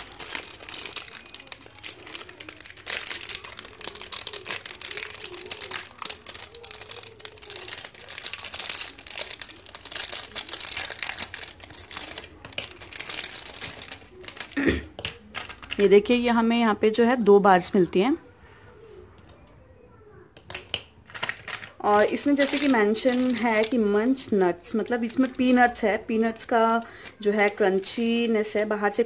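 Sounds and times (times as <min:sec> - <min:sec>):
plastic wrapper crinkling: 0:00.0 - 0:16.5, 0:20.4 - 0:29.0.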